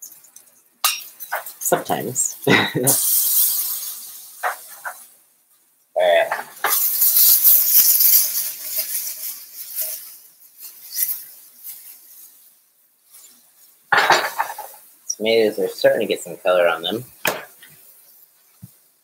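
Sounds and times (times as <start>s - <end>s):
tomatoes sizzling in oil: 0.0s - 19.0s.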